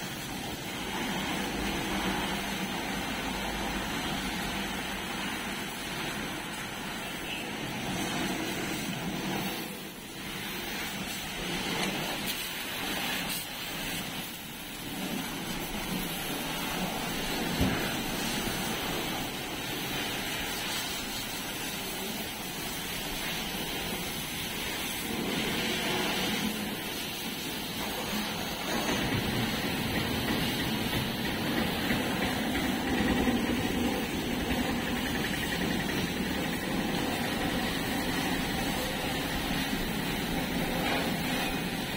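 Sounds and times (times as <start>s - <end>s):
pressure washer jet hissing: 0.0s - 41.9s.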